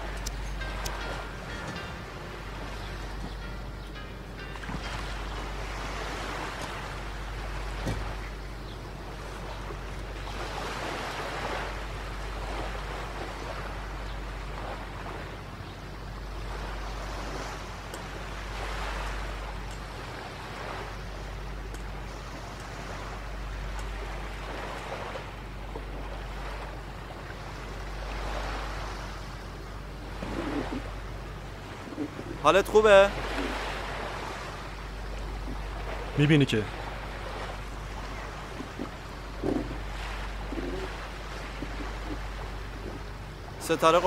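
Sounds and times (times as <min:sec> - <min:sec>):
steady low rumble: 0:00.0 - 0:43.8
sea waves breaking: 0:00.0 - 0:44.0.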